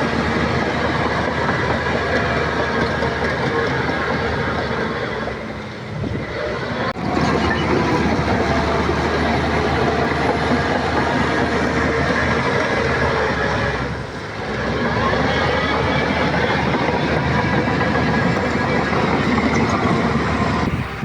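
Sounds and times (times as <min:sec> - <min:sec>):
diesel engine running: 0:00.0 - 0:21.0
steel tracks clattering: 0:00.0 - 0:21.0.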